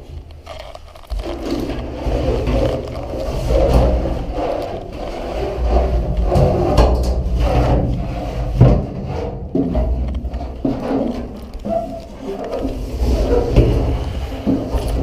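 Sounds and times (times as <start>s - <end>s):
clothing rubbing and scraping: 0.0s - 15.0s.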